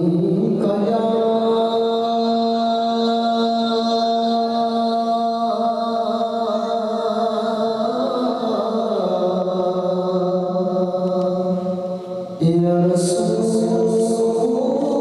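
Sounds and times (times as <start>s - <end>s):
devotional chanting: 0.0s - 15.0s.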